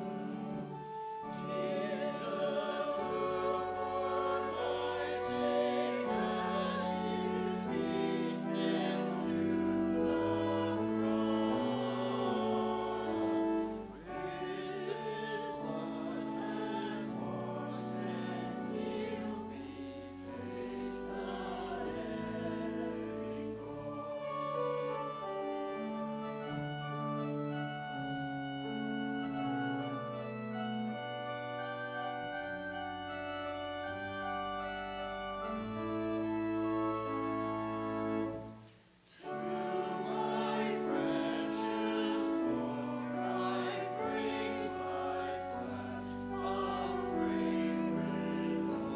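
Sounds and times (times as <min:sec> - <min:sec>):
choir singing: 0:00.0 - 0:48.9
organ chords: 0:00.0 - 0:48.9.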